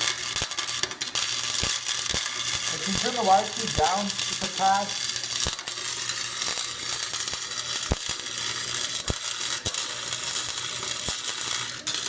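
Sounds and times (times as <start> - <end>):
welder arc crackling: 0.0 - 12.0.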